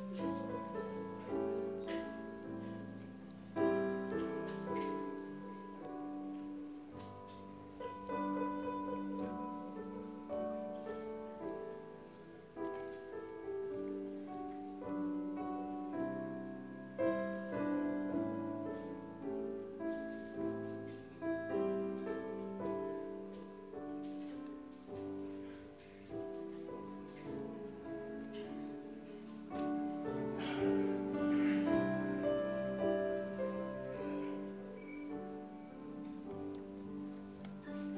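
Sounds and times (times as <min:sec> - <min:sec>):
slow quiet keyboard music: 0:00.0 - 0:37.9.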